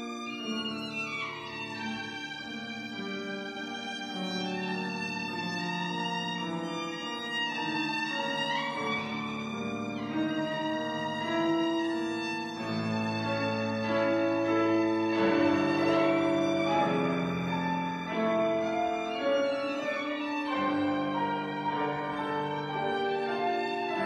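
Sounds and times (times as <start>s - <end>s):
piano: 0.0s - 24.0s
violin: 0.0s - 24.0s.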